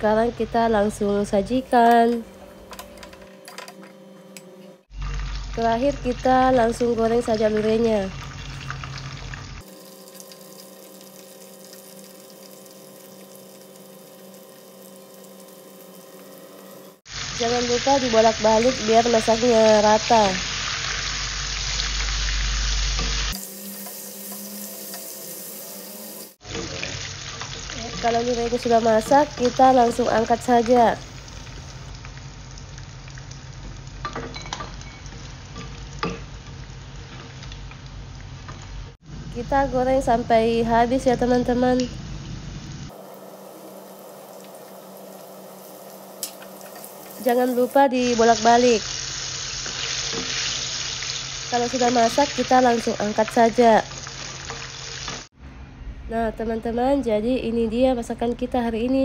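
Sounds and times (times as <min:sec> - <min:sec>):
fish deep-frying in hot oil: 0:04.9 - 0:39.0, 0:41.4 - 0:55.3.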